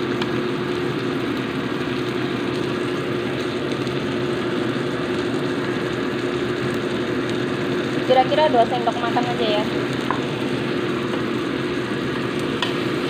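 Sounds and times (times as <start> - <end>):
constant hum: 0.0 - 13.0
vegetables sizzling in wok: 0.0 - 13.0.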